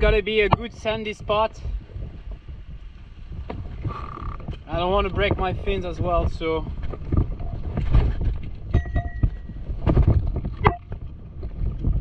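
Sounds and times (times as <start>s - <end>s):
sandal footsteps on rough rock: 0.0s - 12.0s
wind rumbling on microphone: 0.0s - 12.0s.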